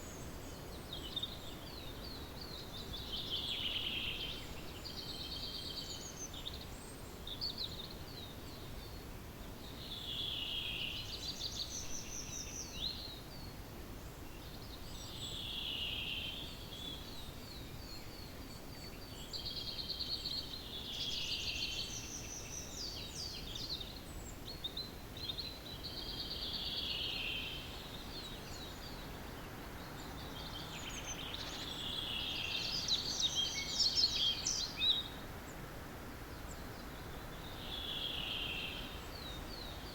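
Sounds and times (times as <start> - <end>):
faint background noise: 0.0 - 39.9
songbird song phrase: 0.0 - 39.9.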